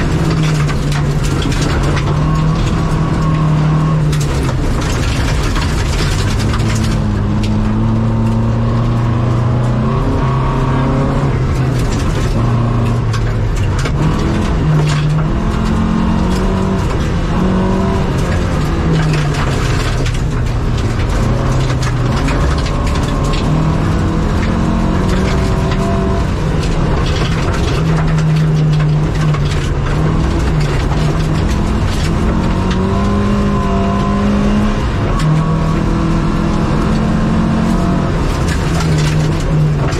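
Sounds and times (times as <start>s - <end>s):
gravel knocking against car body: 0.0s - 34.4s, 35.0s - 39.9s
rally car engine revving: 0.0s - 39.9s.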